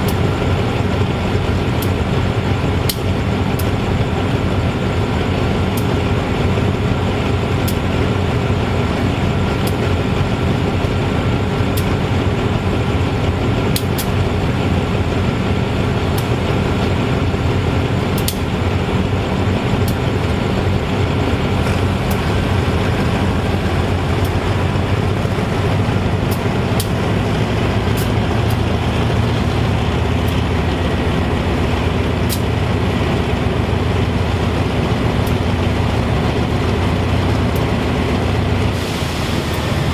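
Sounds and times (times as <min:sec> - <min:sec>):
diesel locomotive engine idling: 0:00.0 - 0:39.9.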